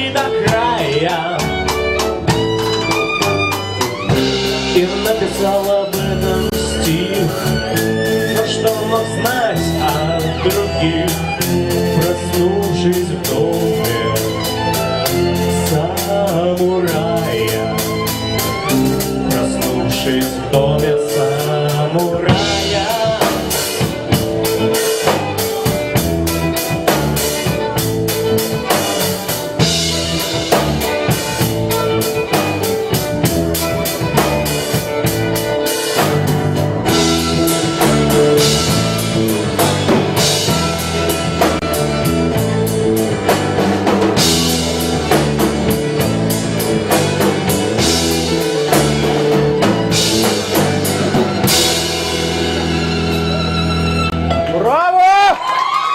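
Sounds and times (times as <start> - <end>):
instrumental rock band playing: 0.0 - 55.9.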